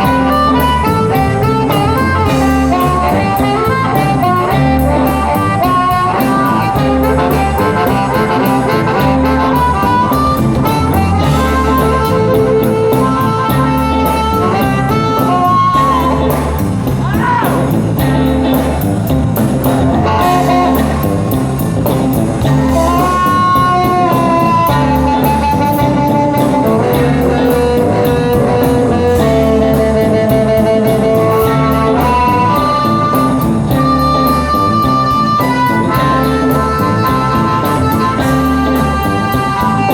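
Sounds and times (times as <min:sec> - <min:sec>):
blues band playing: 0:00.0 - 0:39.9
lead guitar held notes: 0:00.0 - 0:39.9.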